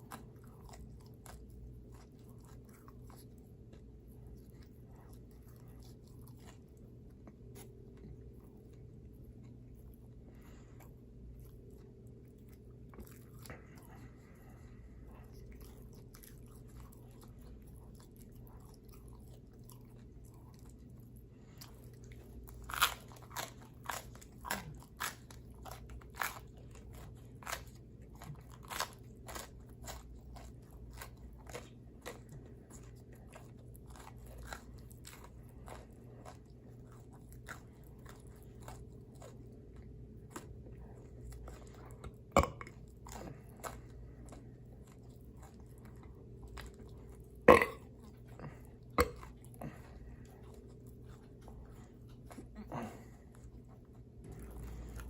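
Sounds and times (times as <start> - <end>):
pizza crust crunching: 0.0 - 55.0
steady low hum: 0.0 - 55.0.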